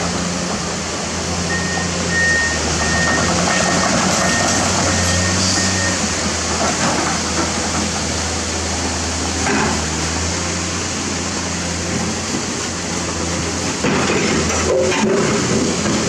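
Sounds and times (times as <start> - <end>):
diesel machinery running: 0.0 - 16.0.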